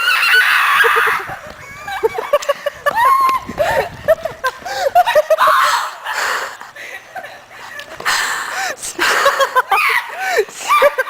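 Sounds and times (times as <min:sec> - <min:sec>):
young people laughing: 0:00.0 - 0:11.0.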